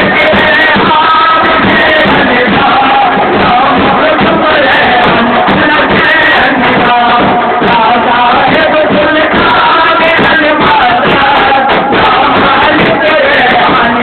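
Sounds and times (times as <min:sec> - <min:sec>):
frame drums beating: 0:00.0 - 0:14.0
men chanting together: 0:00.0 - 0:14.0.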